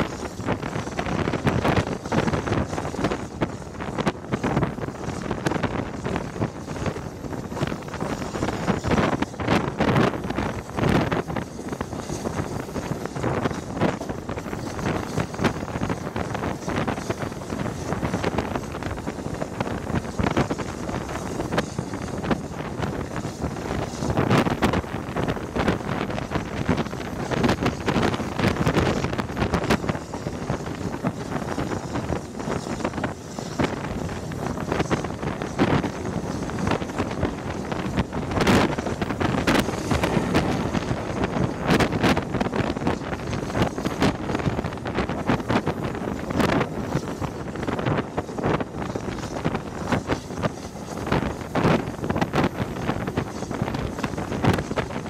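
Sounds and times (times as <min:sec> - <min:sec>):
train coaches rumbling on track: 0:00.0 - 0:55.0
wind buffeting microphone: 0:00.0 - 0:55.0.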